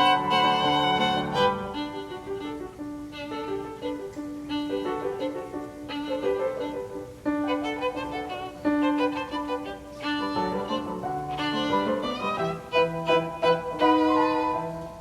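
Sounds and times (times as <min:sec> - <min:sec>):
violin melody: 0:00.0 - 0:15.0.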